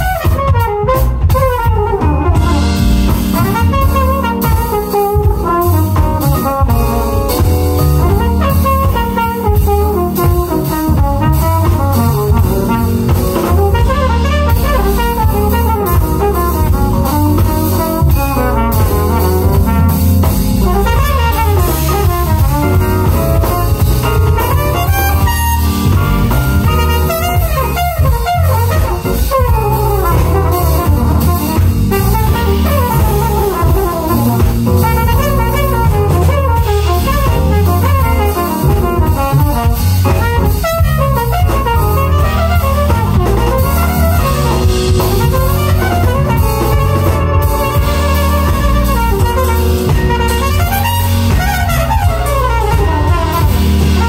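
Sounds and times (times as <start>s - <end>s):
drum kit: 0.0s - 54.0s
electric bass: 0.0s - 54.0s
saxophone solo: 0.0s - 54.0s.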